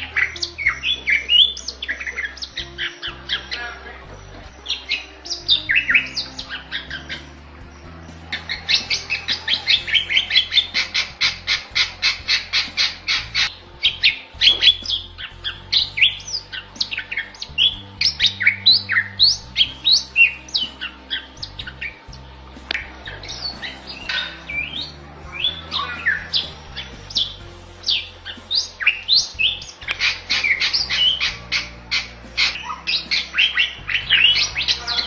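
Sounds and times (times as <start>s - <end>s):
bird singing whistled notes: 0.0s - 35.0s.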